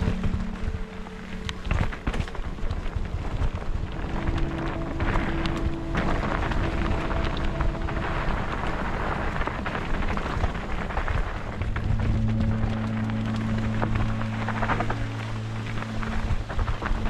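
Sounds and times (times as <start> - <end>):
bike tyres rolling on dirt: 0.0 - 17.0.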